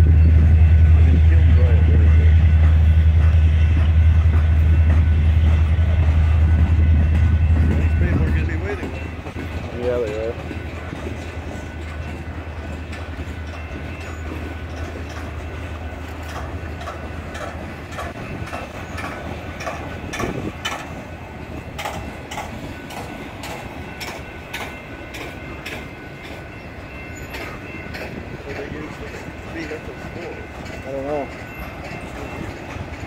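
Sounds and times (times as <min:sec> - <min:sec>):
freight cars rumbling on rails: 0:00.0 - 0:33.0
wheels clicking over rail joints: 0:02.6 - 0:33.0.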